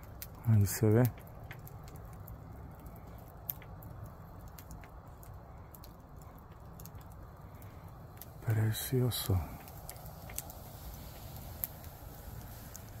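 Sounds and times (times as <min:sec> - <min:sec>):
campfire crackling and popping: 0:00.0 - 0:13.0
low steady rumble: 0:00.0 - 0:13.0.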